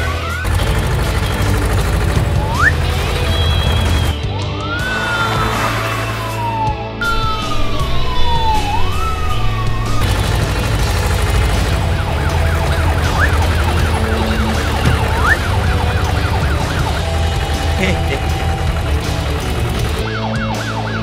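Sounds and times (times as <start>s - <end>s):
police siren wailing and yelping: 0.0s - 21.0s.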